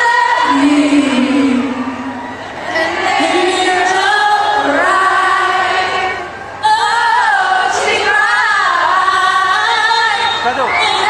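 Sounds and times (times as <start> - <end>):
woman singing a cappella harmonies: 0.0 - 2.1, 2.7 - 11.0.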